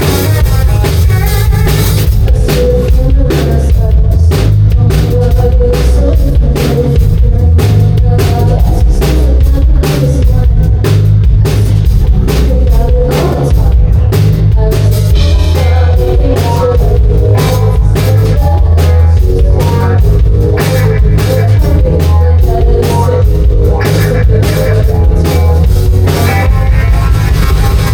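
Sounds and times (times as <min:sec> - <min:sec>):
drum kit beat: 0:00.0 - 0:27.9
rock band playing live: 0:00.0 - 0:27.9.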